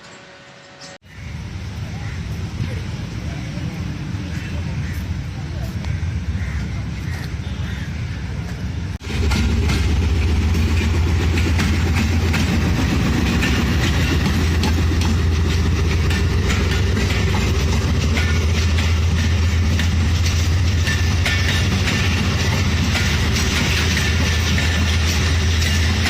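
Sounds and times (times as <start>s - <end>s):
diesel locomotive engine humming: 0.0s - 26.0s
train wheels rolling on rails: 0.0s - 26.0s.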